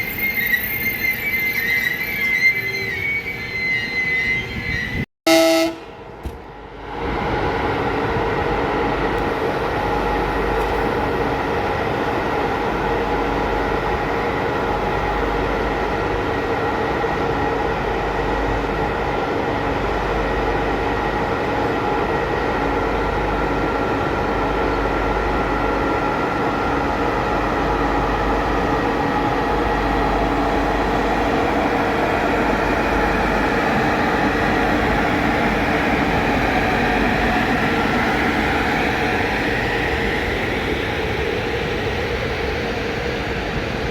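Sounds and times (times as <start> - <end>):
train rumble: 0.0 - 43.9.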